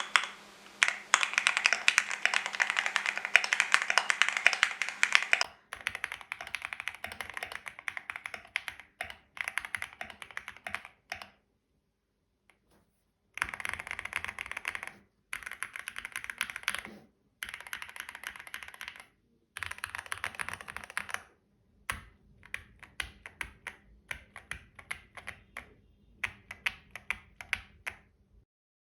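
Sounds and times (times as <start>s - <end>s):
mechanical keyboard typing: 0.0s - 11.4s, 13.4s - 21.3s, 21.9s - 28.1s.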